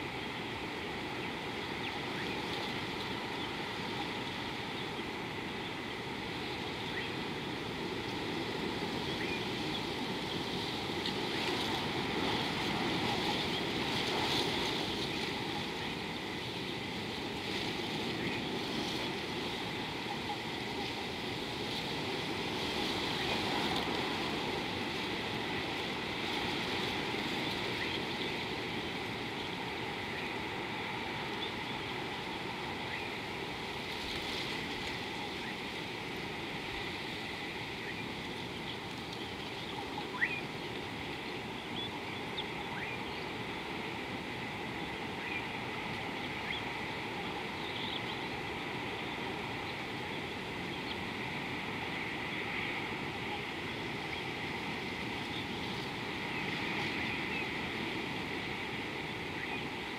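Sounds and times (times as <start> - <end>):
continuous rushing noise: 0.0 - 59.9.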